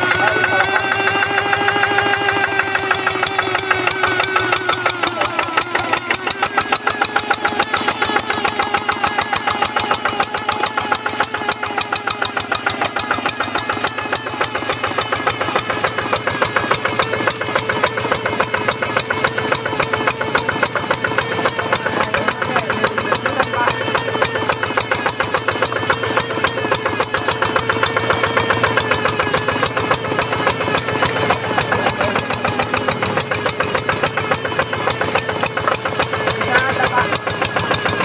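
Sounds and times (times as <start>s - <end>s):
diesel engine chugging: 0.0s - 38.0s.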